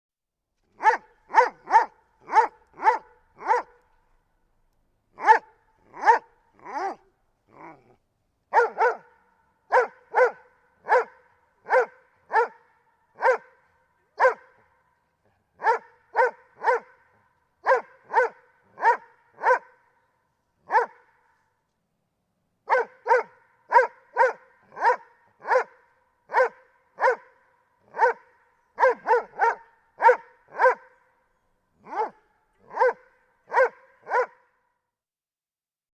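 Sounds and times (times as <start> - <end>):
low drawn-out dog sounds: 0.6 - 4.3, 5.1 - 21.6, 22.6 - 34.8
dog barking: 0.7 - 3.9, 5.2 - 20.0, 20.6 - 21.4, 22.6 - 31.2, 31.8 - 34.6.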